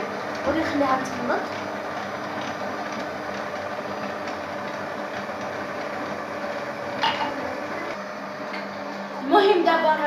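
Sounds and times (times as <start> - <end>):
electric mixer running: 0.0 - 10.0.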